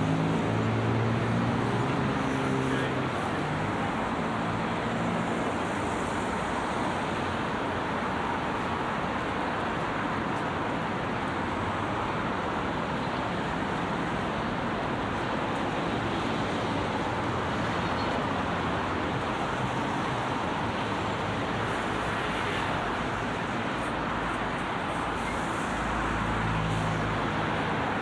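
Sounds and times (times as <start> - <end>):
road traffic rushing: 0.0 - 28.0.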